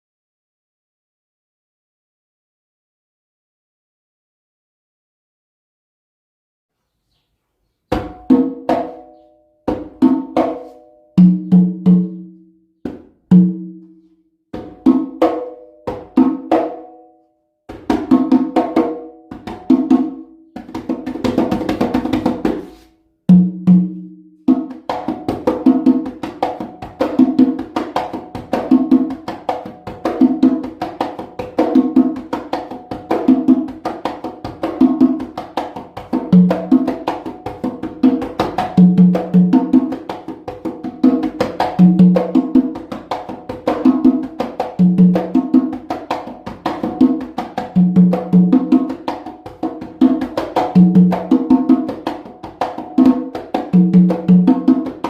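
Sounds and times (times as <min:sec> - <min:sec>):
conga drums played by hand: 0:07.9 - 0:13.9, 0:14.5 - 0:17.0, 0:17.7 - 0:55.0.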